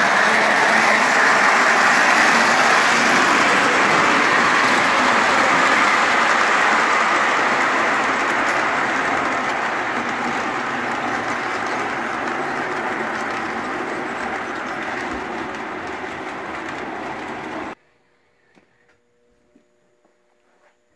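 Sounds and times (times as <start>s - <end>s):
model trains whirring on rails: 0.0s - 17.8s.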